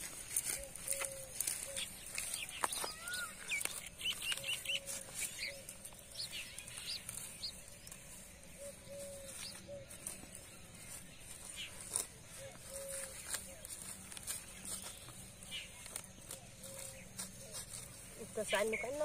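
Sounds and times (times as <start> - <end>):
chickens peeping and chirping: 0.0 - 19.0.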